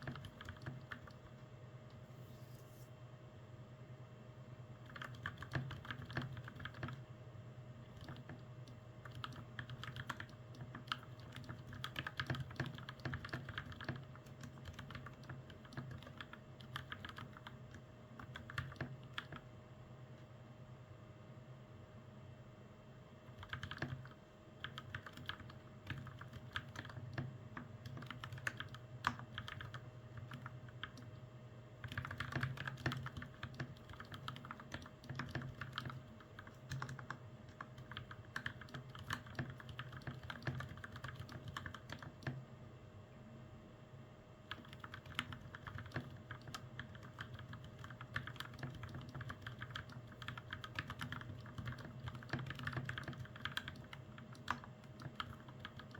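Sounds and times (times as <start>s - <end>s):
mechanical keyboard typing: 0.0s - 1.2s, 4.8s - 7.0s, 7.9s - 19.5s, 23.3s - 31.2s, 31.8s - 42.4s, 44.5s - 55.9s.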